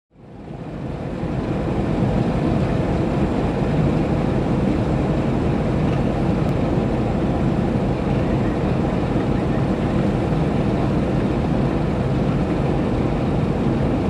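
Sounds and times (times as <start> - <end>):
boat engine rumble: 0.2 - 14.0.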